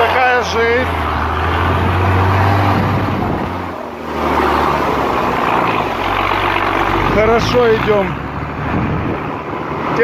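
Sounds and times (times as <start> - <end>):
diesel engine running under load: 0.0 - 9.8
rushing and churning water: 0.0 - 10.0.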